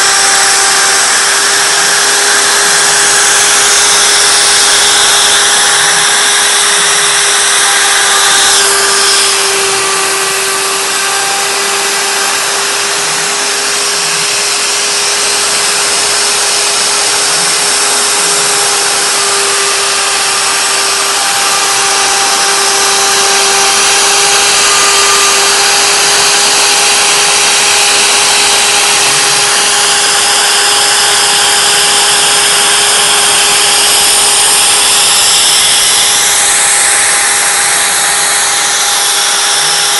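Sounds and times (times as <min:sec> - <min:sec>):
router cutter hissing through wood: 0:00.0 - 0:39.9
spindle high whine: 0:00.0 - 0:39.9.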